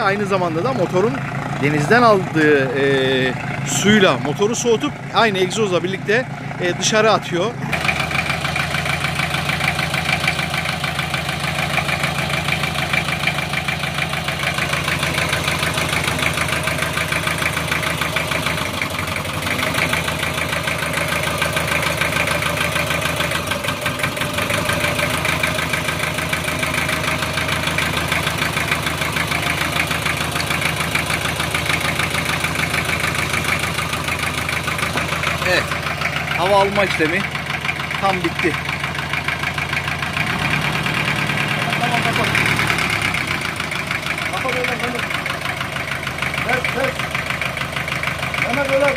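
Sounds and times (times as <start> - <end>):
diesel engine idling with ticking: 0.0 - 48.9.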